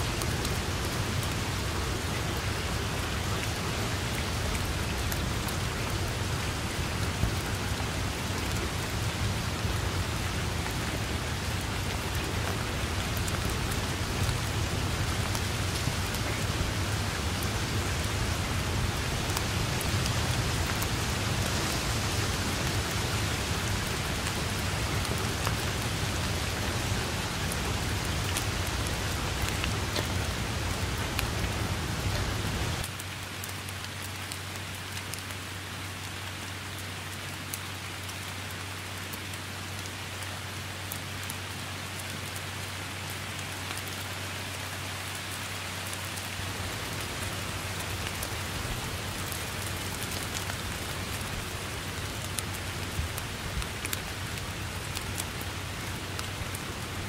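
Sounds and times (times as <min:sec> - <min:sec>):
rain on grass and leaves: 0:00.0 - 0:57.0.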